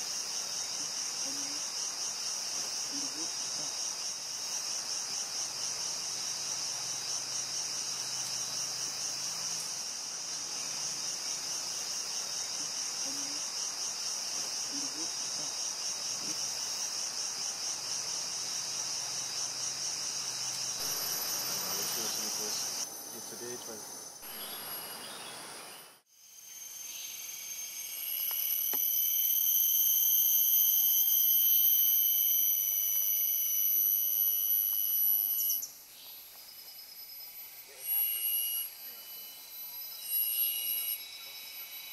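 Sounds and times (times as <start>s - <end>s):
insect chorus drone: 0.0s - 41.9s
thin high insect buzz: 0.0s - 41.9s.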